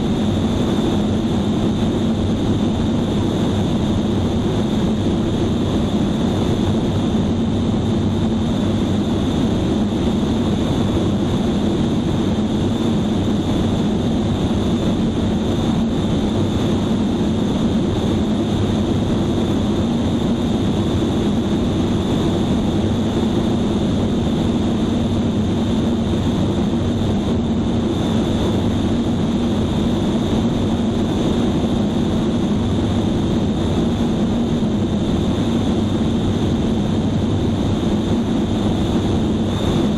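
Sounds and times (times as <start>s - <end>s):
propeller airplane engine drone: 0.0s - 39.9s
wind noise: 0.0s - 39.9s.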